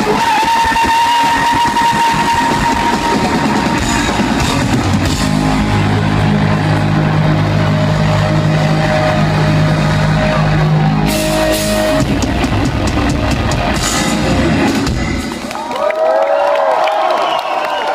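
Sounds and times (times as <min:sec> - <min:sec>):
hard rock band playing live: 0:00.0 - 0:15.6
crowd cheering and whistling: 0:00.0 - 0:17.9.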